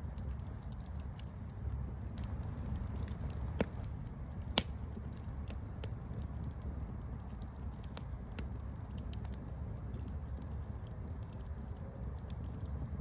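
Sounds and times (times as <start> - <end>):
burning wood popping and snapping: 0.0 - 12.8
campfire flames rumbling: 0.0 - 13.0.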